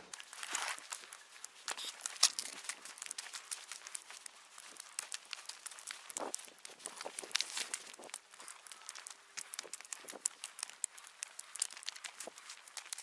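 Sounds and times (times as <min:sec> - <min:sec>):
footsteps on rocky ground: 0:00.0 - 0:13.0.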